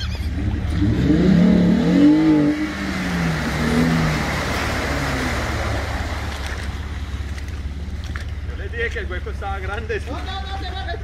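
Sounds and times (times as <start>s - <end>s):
car engine revving: 0.2s - 10.1s
water splashing and rushing: 0.3s - 11.0s.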